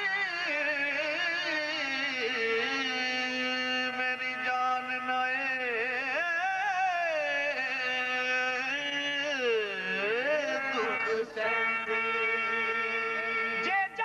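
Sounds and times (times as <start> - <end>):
man singing with vibrato: 0.0 - 14.0.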